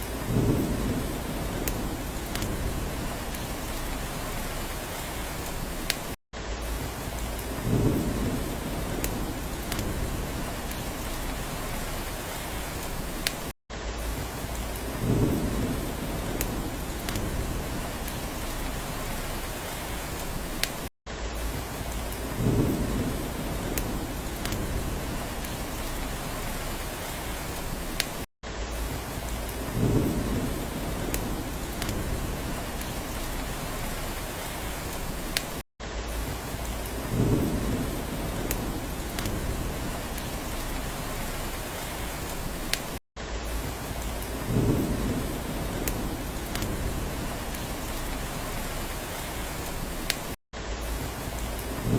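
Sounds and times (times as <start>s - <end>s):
thunder rumble: 0.0s - 13.3s, 14.0s - 20.6s, 21.4s - 27.8s, 28.7s - 35.4s, 36.1s - 42.8s, 43.5s - 51.9s
raindrop ticks: 0.0s - 51.9s
steady rain: 0.0s - 51.9s.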